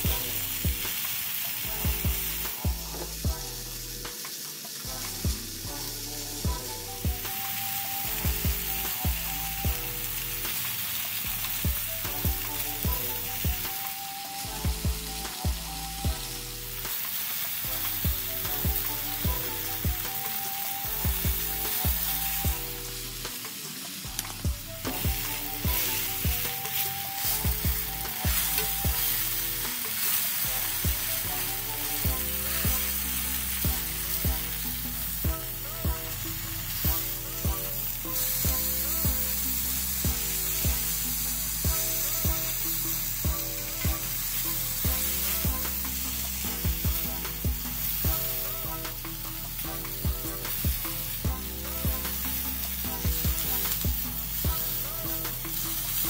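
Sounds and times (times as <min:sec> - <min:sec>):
background music with bass line: 0:00.0 - 0:56.0
peppers sizzling in grill pan: 0:00.0 - 0:56.0.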